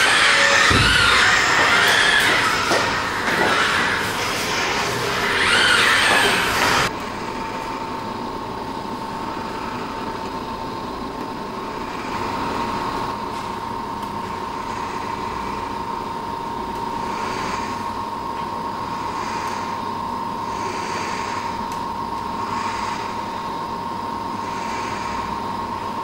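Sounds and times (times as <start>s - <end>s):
mechanical hum with whine: 0.0s - 26.0s.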